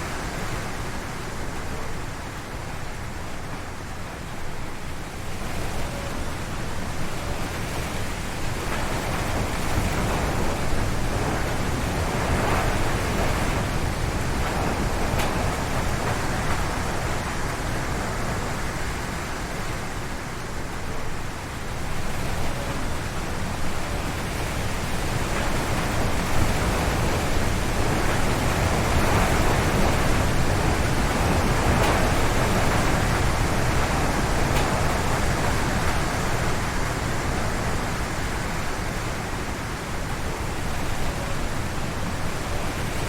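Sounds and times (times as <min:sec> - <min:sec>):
strong wind howling through trees: 0:00.0 - 0:43.0.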